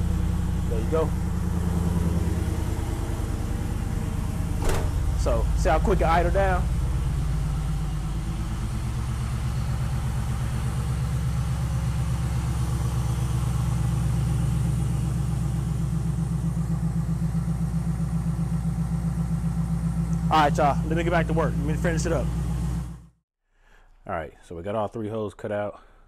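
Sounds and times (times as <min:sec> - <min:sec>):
car engine idling: 0:00.0 - 0:23.1.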